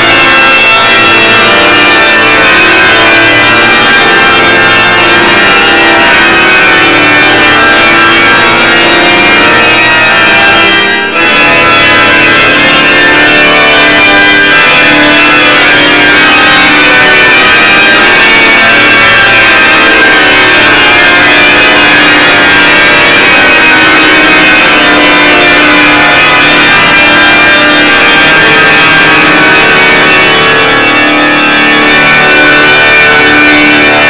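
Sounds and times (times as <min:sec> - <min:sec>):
pipe organ chords: 0:00.0 - 0:34.0.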